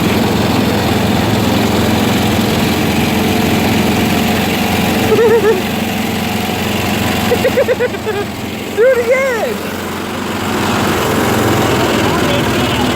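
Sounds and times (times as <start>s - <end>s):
vehicle engine idling: 0.0s - 12.9s.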